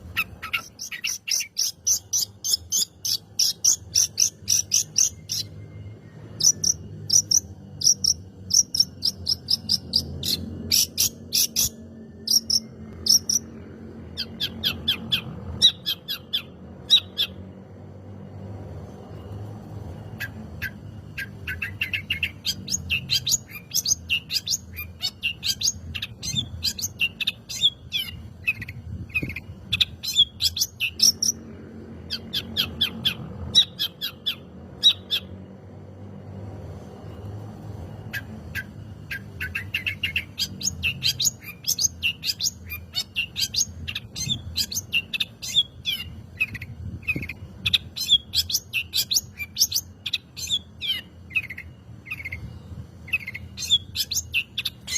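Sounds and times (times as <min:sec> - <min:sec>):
bird chattering song: 0:00.0 - 0:17.5, 0:20.1 - 0:35.5, 0:38.0 - 0:54.9.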